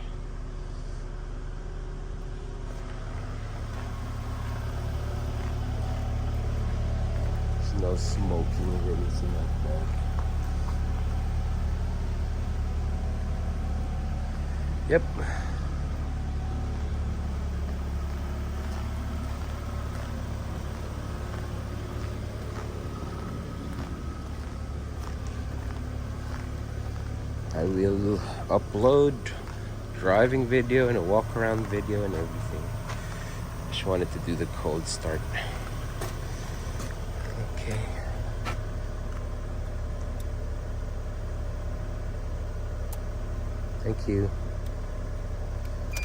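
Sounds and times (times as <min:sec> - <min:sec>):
van engine idling: 0:00.0 - 0:46.0.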